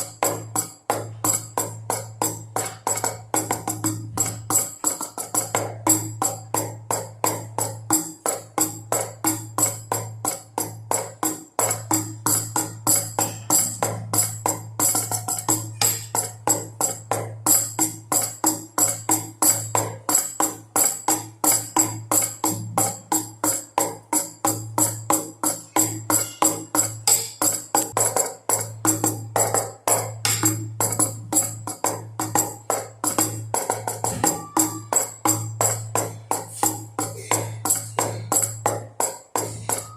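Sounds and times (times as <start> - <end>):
drum beat: 0.0 - 39.9.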